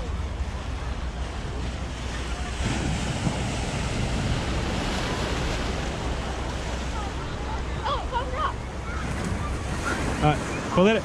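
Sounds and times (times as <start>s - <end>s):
ocean surf washing in: 0.0s - 11.0s
wind rumbling on microphone: 0.0s - 11.0s.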